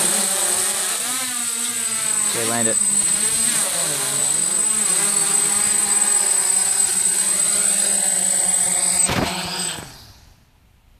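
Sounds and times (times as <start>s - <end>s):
drone motors buzzing whine: 0.0s - 10.4s.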